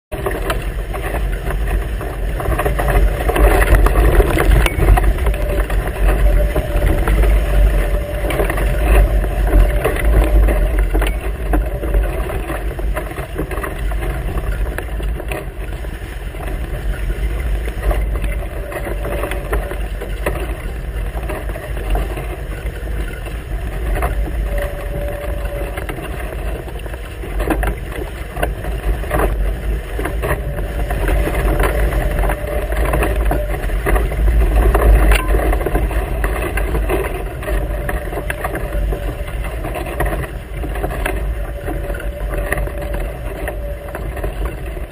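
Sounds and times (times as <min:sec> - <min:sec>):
water rushing along hulls: 0:00.1 - 0:44.9
wind buffeting microphone: 0:00.1 - 0:44.9
faint hum: 0:00.2 - 0:44.9.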